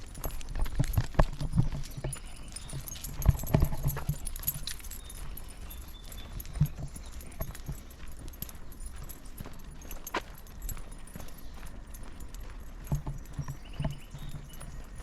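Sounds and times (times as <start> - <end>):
footsteps on a woodland trail: 0.0 - 15.0.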